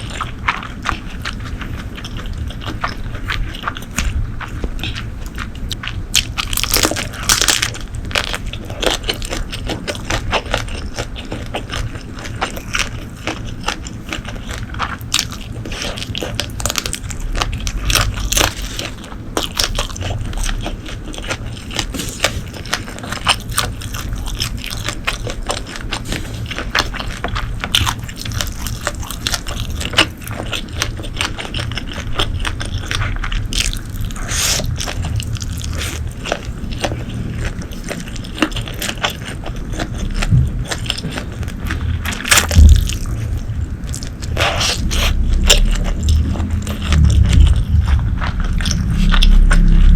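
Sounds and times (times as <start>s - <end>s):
food being chewed: 0.0s - 49.9s.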